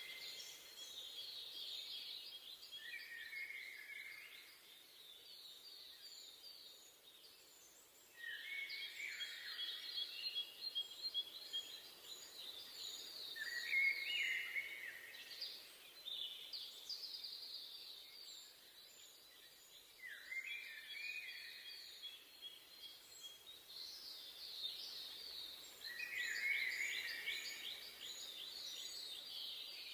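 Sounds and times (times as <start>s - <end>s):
faint background hiss: 0.0s - 29.9s.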